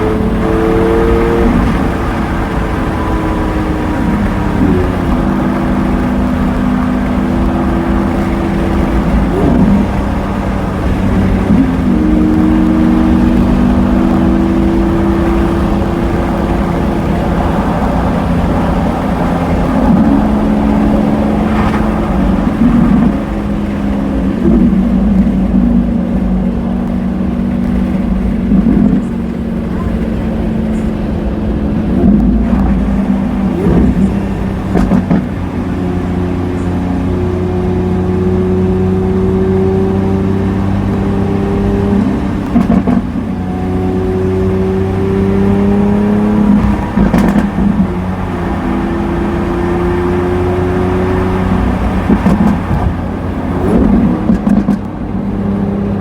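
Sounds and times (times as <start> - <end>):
engine throttle blips: 0.0 - 56.0
sports car engine: 0.0 - 56.0.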